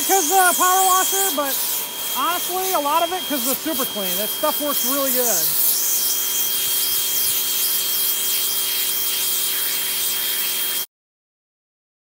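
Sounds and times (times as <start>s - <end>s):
pressure washer jet hissing: 0.0s - 10.9s
thin steady whine: 0.0s - 10.9s.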